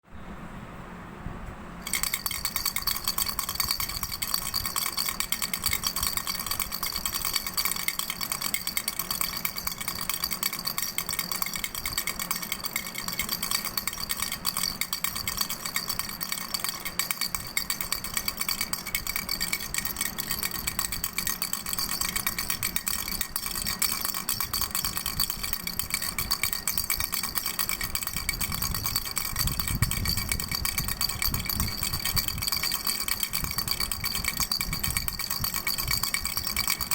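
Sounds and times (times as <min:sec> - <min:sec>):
baby rattle shaking: 0:01.8 - 0:36.9
steady ringing tone: 0:01.8 - 0:36.9.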